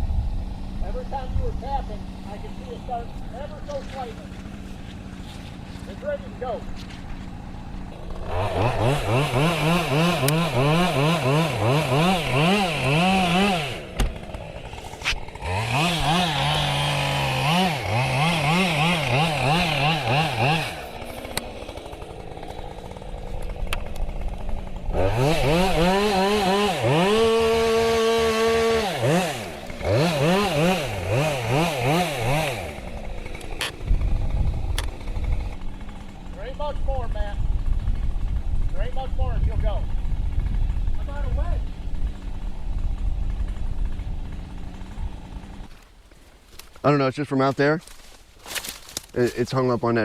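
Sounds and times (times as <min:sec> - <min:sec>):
chainsaw cutting and revving: 0:00.0 - 0:46.1.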